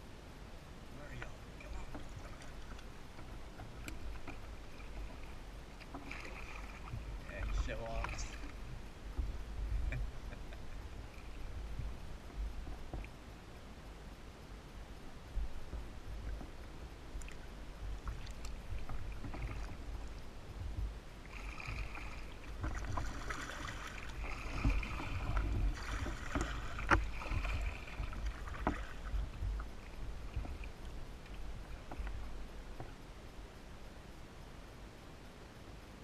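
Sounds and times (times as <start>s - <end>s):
low rumble: 0.0s - 33.9s
paddle splashing in water: 1.0s - 13.2s, 15.4s - 33.1s.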